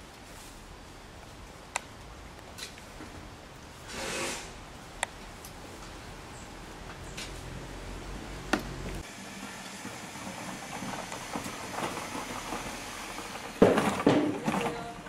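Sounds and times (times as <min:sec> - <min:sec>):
faint street noise: 0:00.0 - 0:15.0.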